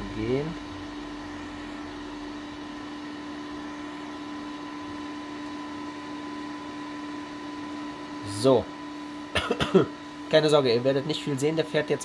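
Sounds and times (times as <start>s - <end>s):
cooling fan whirring: 0.0s - 12.0s
stepper motor humming: 0.0s - 12.0s.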